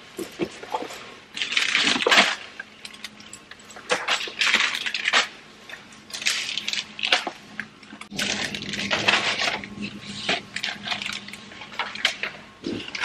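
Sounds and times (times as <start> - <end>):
items clinking and knocking: 0.1 - 13.0
plastic bags crinkling: 0.2 - 13.0.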